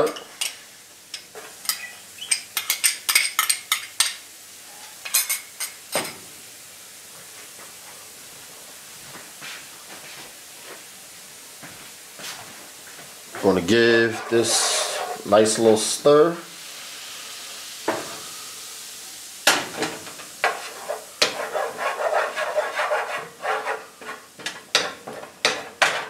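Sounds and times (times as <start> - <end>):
faint sizzle in pan: 0.0 - 26.0.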